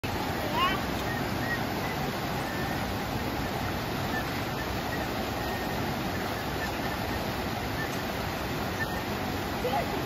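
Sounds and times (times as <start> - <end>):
stream rushing over stones: 0.0 - 10.0.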